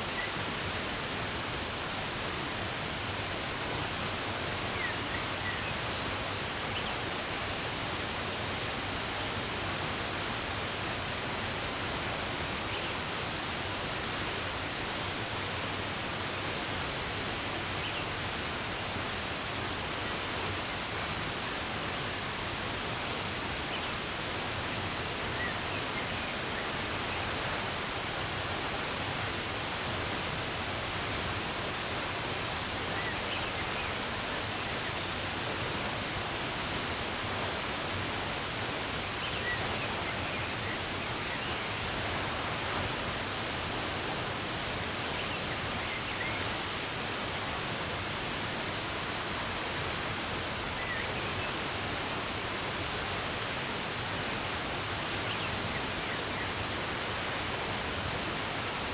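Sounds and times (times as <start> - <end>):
running water rushing: 0.0 - 58.9.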